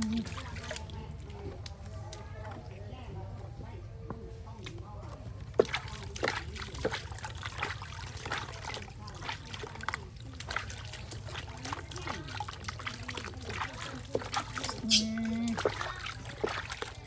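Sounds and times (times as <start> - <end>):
water trickling and splashing: 0.0 - 3.0, 5.2 - 17.0.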